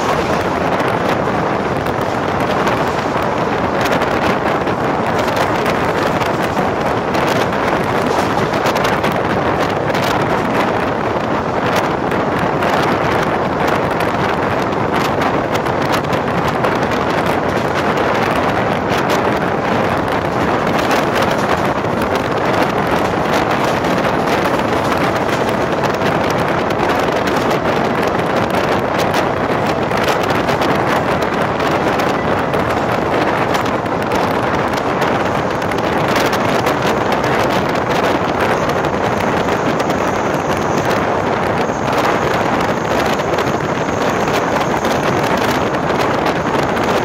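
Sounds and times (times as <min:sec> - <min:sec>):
train wheels clattering on track: 0:00.0 - 0:47.0
wheels clicking over rail joints: 0:00.0 - 0:47.0
wind rushing over microphone: 0:00.0 - 0:47.0.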